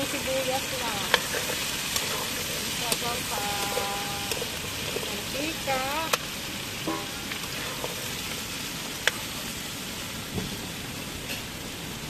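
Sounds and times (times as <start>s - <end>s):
squash sizzling in oil: 0.0s - 12.0s.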